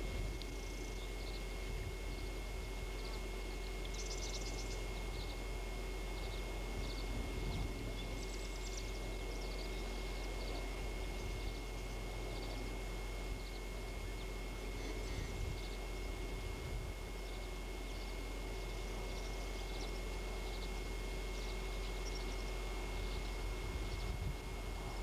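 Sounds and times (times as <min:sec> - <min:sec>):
low hum: 0:00.0 - 0:25.0
thin steady whine: 0:00.0 - 0:25.0.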